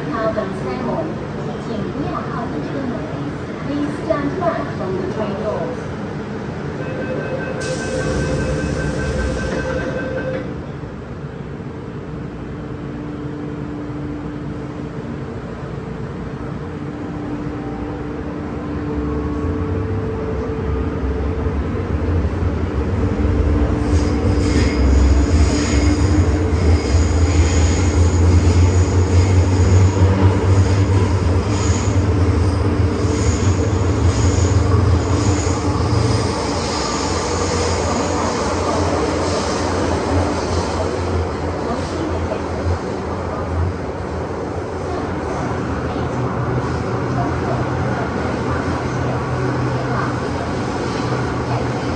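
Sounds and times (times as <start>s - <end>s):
train wheels rumbling on track: 7.4s - 51.9s.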